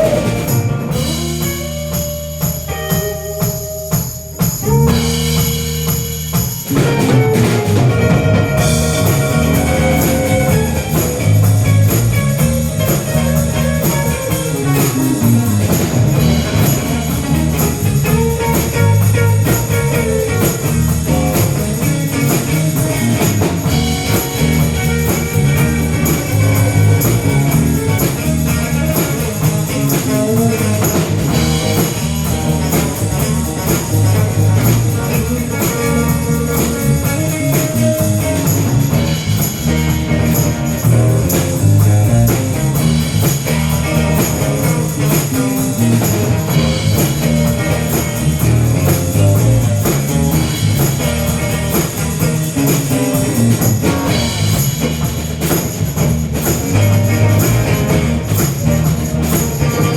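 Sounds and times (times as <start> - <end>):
instrumental rock band playing: 0.0 - 59.9.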